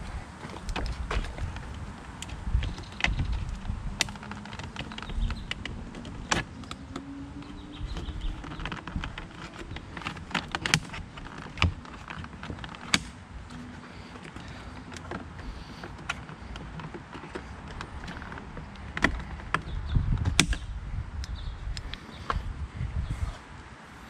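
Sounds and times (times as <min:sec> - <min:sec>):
screwdriver clicking and scraping plastic: 0:00.6 - 0:20.6.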